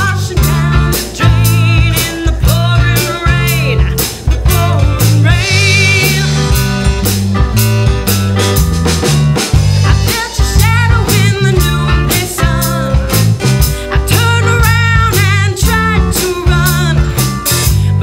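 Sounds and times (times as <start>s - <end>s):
bass guitar: 0.0s - 18.0s
drum kit beat: 0.0s - 18.0s
guitar: 0.0s - 18.0s.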